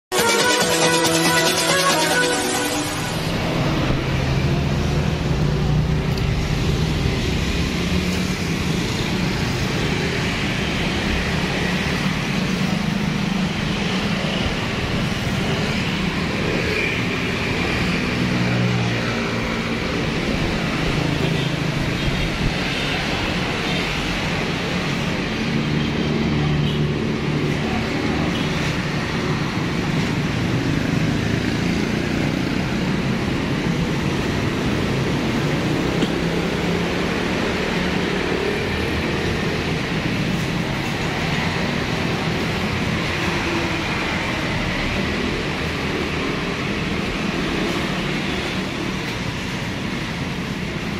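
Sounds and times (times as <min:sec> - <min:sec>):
road traffic engines: 0:00.0 - 0:50.9.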